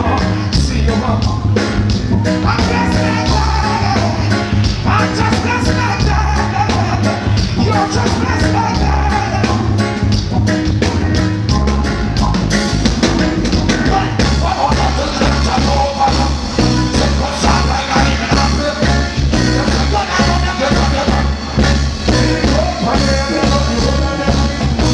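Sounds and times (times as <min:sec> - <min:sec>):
person singing into a microphone: 0:00.0 - 0:09.9, 0:13.8 - 0:24.9
heavy bass line: 0:00.0 - 0:24.9
live reggae band playing: 0:00.0 - 0:24.9.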